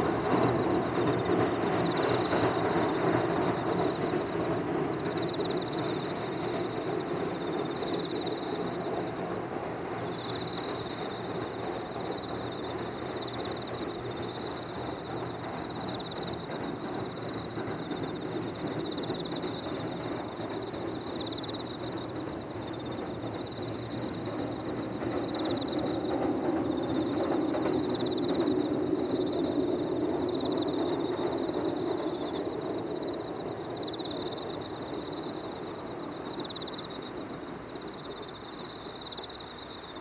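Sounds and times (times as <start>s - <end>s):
insects chirping in trills: 0.0s - 40.0s.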